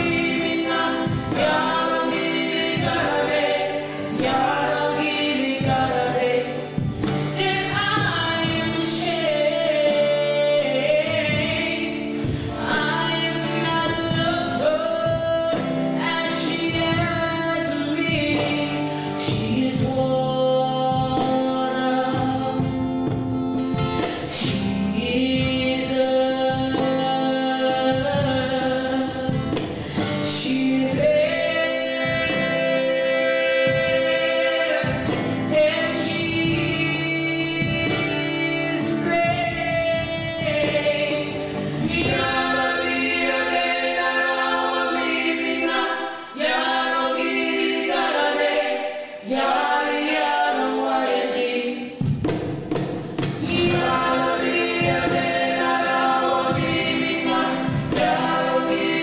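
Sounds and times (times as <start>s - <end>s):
men singing harmony: 0.0s - 22.6s, 24.3s - 52.0s, 53.4s - 59.0s
woman singing: 0.0s - 23.3s, 24.0s - 52.0s, 53.3s - 59.0s
cajon beat: 0.0s - 59.0s
strummed acoustic guitar: 0.0s - 59.0s.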